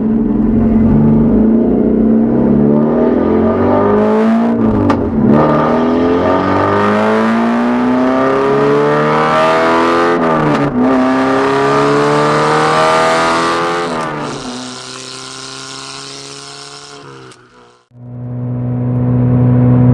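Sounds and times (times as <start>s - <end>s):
car engine accelerating hard: 0.0s - 19.9s.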